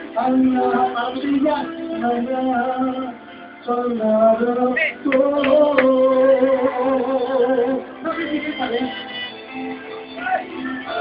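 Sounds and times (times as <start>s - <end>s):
man singing long held notes: 0.0s - 9.2s.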